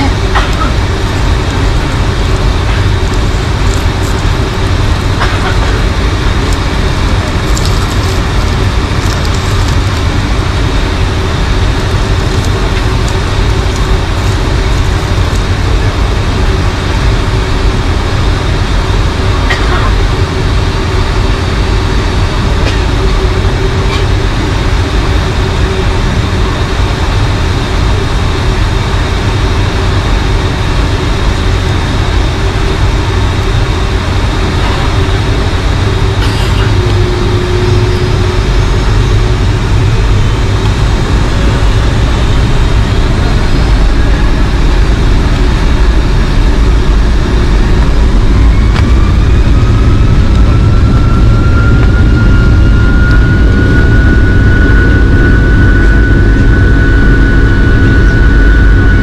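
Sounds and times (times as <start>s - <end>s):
airplane cabin rumble: 0.0s - 59.0s
faint steady whine: 0.0s - 59.0s
jet engines spooling up: 0.0s - 59.0s.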